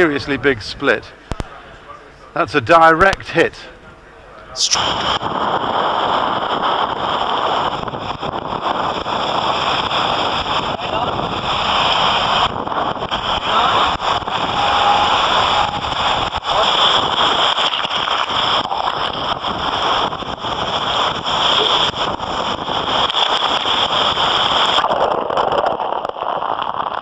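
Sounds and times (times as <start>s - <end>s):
wind and spray on microphone: 4.6s - 27.0s.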